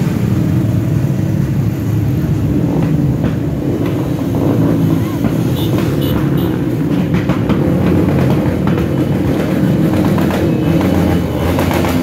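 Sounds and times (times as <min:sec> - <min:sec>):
motorcycles passing by: 0:00.0 - 0:12.0.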